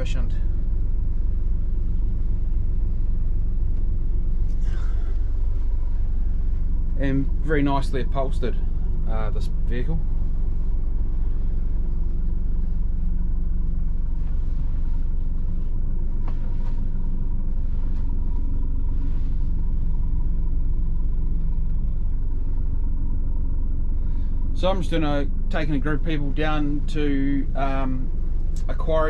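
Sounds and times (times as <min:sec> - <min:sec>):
diesel bus engine idling: 0:00.0 - 0:29.0.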